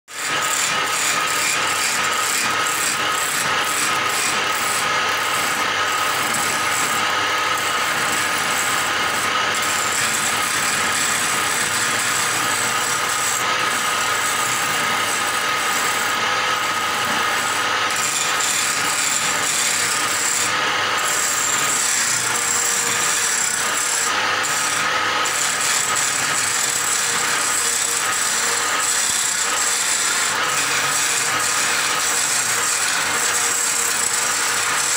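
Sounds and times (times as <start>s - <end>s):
chisel shaving wood: 0.1s - 34.9s
lathe whine: 0.2s - 34.9s.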